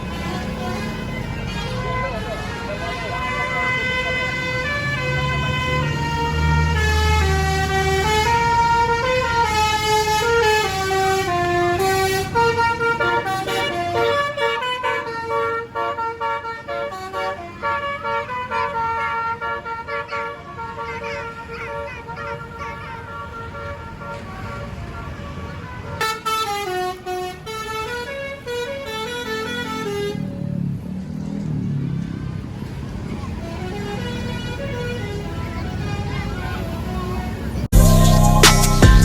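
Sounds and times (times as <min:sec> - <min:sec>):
musical air horn melody: 0:00.0 - 0:30.2, 0:37.7 - 0:39.0
bus engine rumbling: 0:00.0 - 0:39.0.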